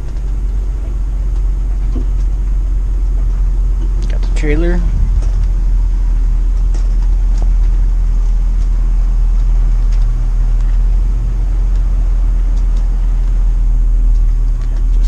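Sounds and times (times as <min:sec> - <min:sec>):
vehicle engine rumble inside cab: 0:00.0 - 0:15.0.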